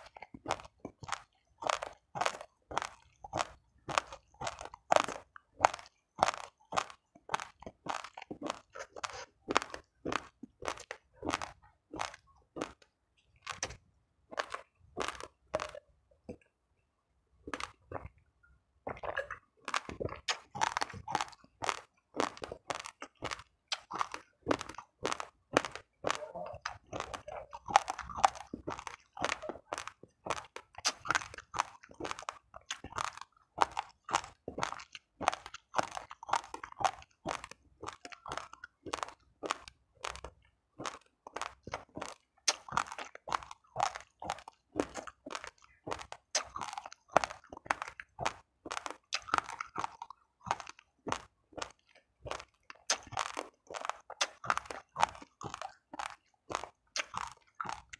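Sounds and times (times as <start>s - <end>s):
crunchy chewing of rice grains: 0.0s - 16.6s, 17.4s - 18.2s, 18.9s - 57.9s.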